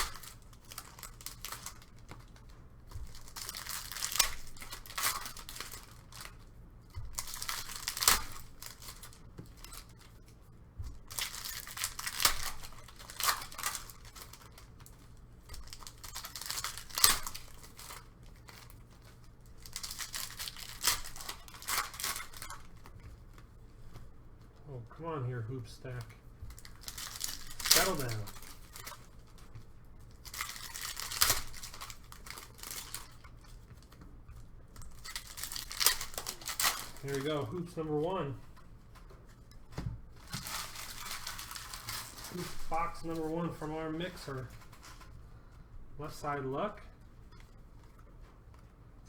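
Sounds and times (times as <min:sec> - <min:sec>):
card pack wrappers crinkling: 0:00.0 - 0:24.6, 0:25.4 - 0:45.3.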